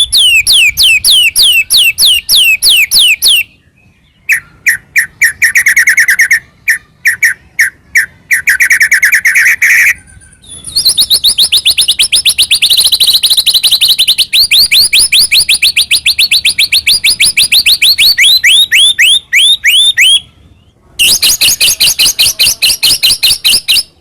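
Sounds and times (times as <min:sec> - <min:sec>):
bird singing chirped notes: 0:00.0 - 0:24.0.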